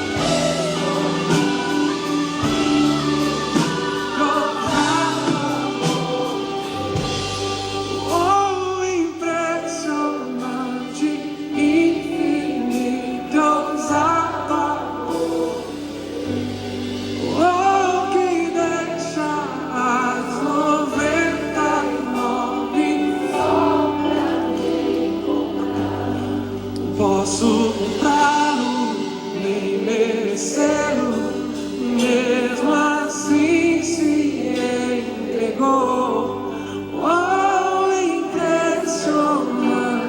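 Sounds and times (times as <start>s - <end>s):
band with bass: 0.0s - 40.0s
choir-like singing with vibrato: 0.0s - 40.0s.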